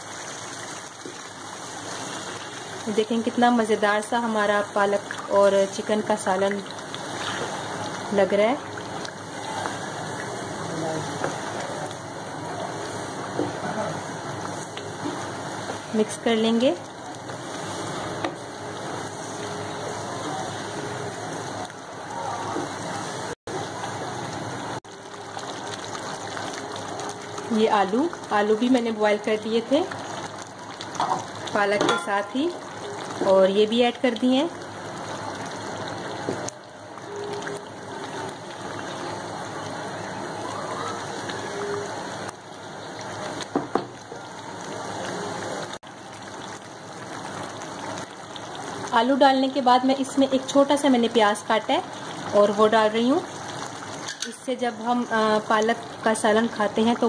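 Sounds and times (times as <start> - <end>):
curry simmering and bubbling: 0.0 - 57.0.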